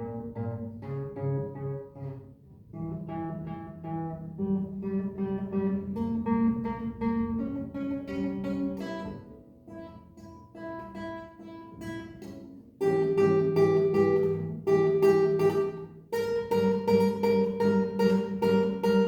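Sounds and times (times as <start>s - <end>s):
guitar-like plucked string music: 0.0s - 19.0s.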